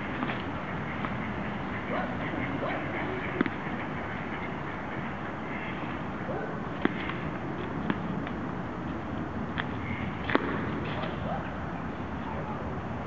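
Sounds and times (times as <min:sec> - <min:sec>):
urban underpass background noise: 0:00.0 - 0:13.0.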